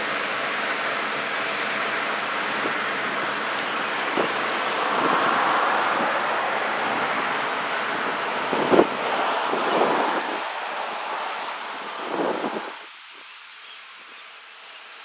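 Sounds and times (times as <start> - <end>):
freight train rolling: 0.0 - 13.0.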